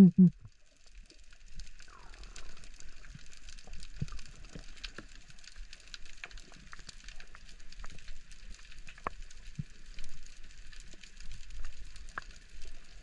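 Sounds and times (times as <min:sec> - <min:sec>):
underwater crackle of clicks: 0:00.4 - 0:13.0.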